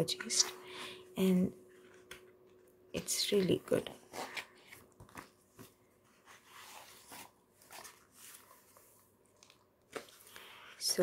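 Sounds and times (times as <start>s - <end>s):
book pages turning: 1.8s - 11.0s.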